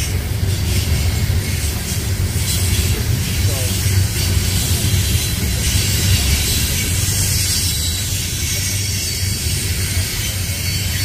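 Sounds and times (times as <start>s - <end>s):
train low rumble: 0.0s - 11.0s
wheels hissing on rails: 0.0s - 11.0s.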